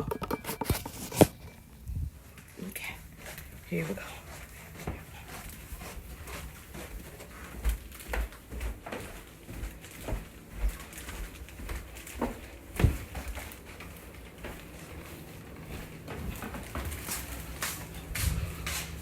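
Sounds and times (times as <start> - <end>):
footsteps down stairs: 0.0 - 19.0.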